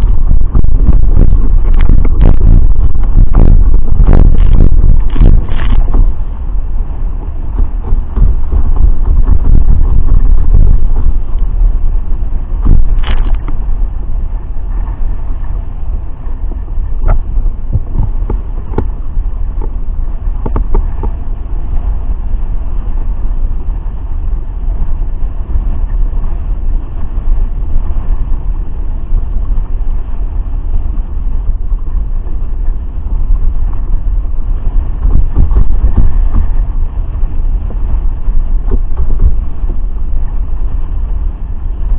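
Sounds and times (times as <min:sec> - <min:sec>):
water rushing and spraying: 0:00.0 - 0:41.9
wind buffeting microphone: 0:00.0 - 0:41.9.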